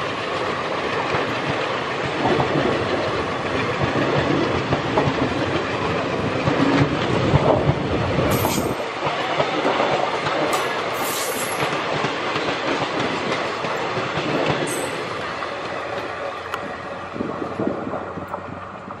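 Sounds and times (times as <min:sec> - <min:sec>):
train wheels clattering: 0:00.4 - 0:16.1.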